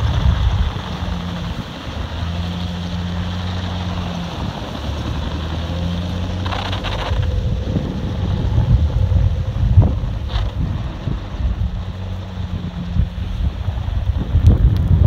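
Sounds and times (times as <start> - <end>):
rushing hiss: 0.0 - 14.6
vehicle engine crawling: 0.0 - 15.0.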